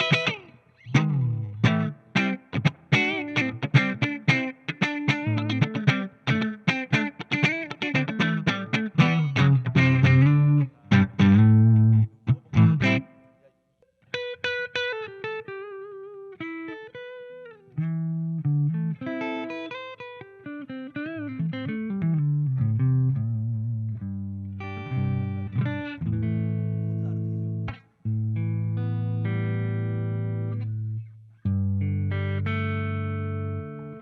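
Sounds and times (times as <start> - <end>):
electric guitar playing: 0.0 - 34.0.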